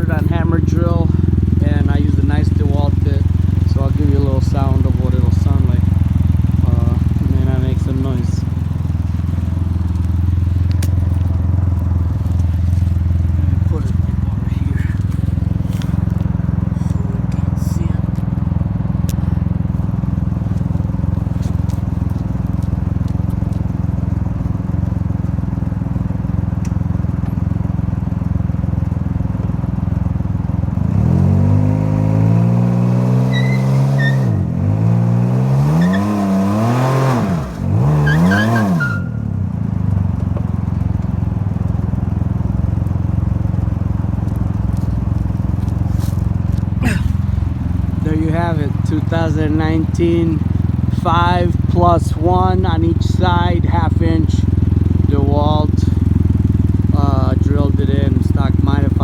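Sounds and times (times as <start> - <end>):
engine idling and revving: 0.0 - 59.0.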